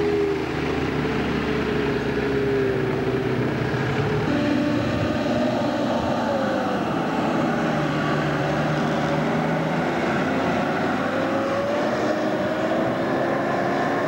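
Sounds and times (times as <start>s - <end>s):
suv driving past: 0.0s - 14.0s.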